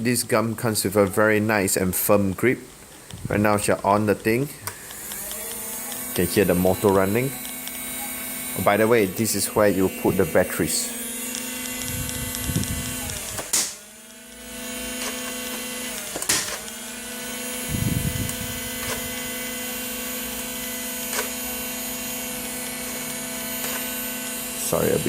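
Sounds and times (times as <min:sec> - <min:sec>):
toy gun motor whirring: 0:04.6 - 0:25.0.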